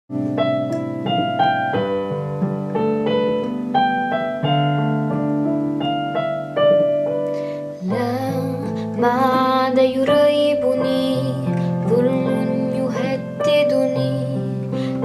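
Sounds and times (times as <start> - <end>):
piano playing: 0.1 - 15.0.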